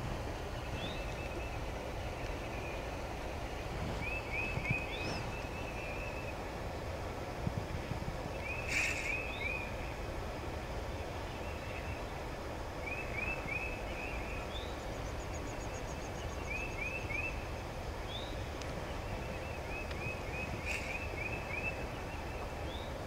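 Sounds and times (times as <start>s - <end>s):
low background rush: 0.0s - 23.0s
songbirds chirping: 0.0s - 23.0s.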